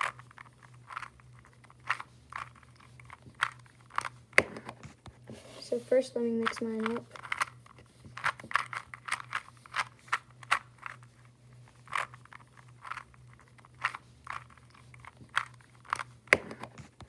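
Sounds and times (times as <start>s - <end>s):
puzzle cube clicking: 0.0s - 17.0s.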